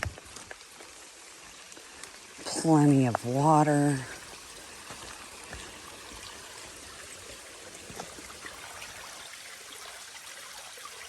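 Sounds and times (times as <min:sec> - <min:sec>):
mountain stream running: 0:00.0 - 0:11.0.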